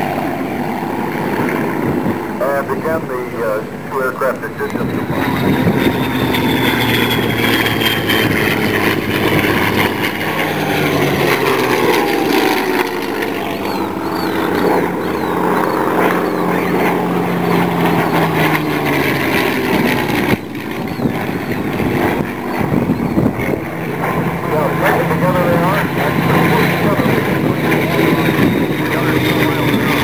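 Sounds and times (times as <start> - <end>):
piston aero engines running: 0.0 - 30.0.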